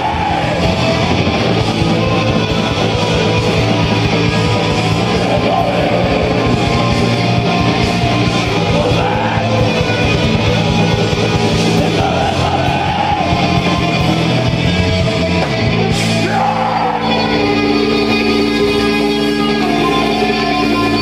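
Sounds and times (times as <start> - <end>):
shouted vocals: 0.0 - 14.7, 15.5 - 18.8
fast drumming: 0.0 - 16.9
bass guitar: 0.0 - 21.0
distorted electric guitars: 0.0 - 21.0.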